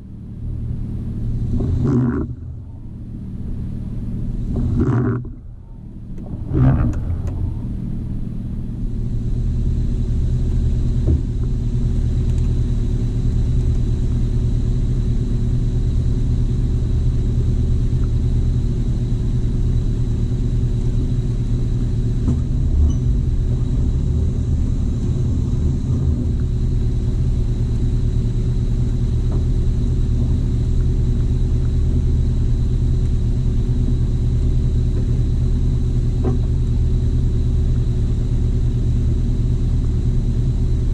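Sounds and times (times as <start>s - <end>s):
car engine running at low speed: 0.0s - 40.9s.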